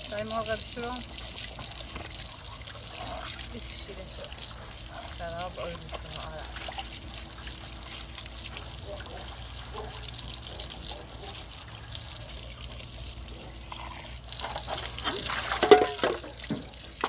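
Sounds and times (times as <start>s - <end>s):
tap water running and splashing: 0.0s - 17.0s.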